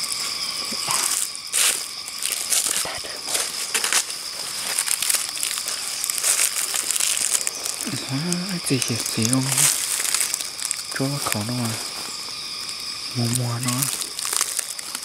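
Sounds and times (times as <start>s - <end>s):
footsteps crunching dry leaves: 0.0s - 15.0s
high insect drone: 0.0s - 15.0s.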